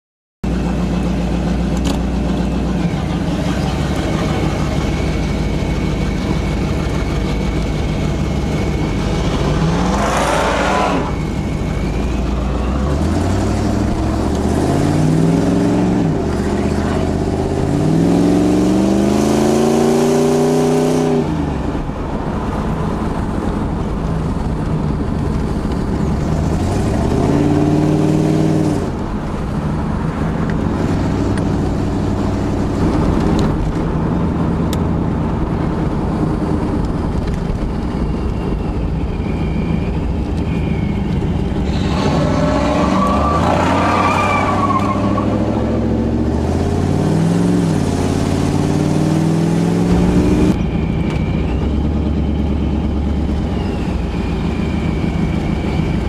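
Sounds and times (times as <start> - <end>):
car engine accelerating: 0.4 - 56.0.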